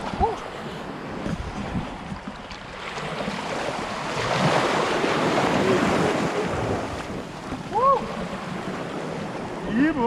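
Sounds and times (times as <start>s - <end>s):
ocean waves breaking: 0.0s - 10.0s.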